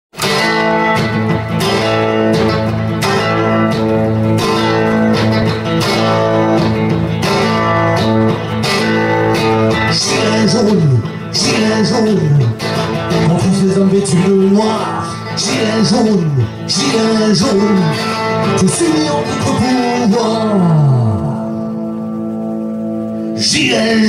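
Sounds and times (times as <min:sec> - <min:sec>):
electric guitar chords: 0:00.1 - 0:24.0
steady rock beat: 0:00.1 - 0:24.0.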